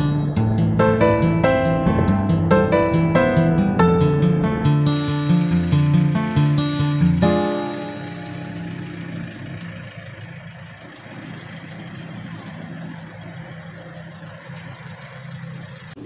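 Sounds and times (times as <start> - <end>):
road noise hiss: 0.0 - 16.0
vehicle engine humming: 0.0 - 16.0.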